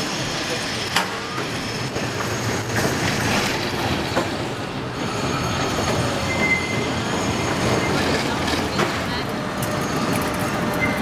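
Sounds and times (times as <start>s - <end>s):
high squeal of tram wheels: 0.0s - 11.0s
tram wheel-on-rail rumble: 0.0s - 11.0s
tram wheels clacking: 0.0s - 11.0s.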